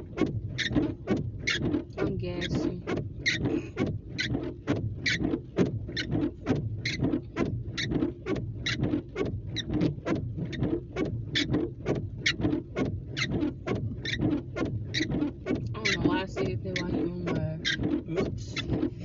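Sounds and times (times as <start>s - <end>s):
windshield wipers squeaking: 0.0s - 19.0s.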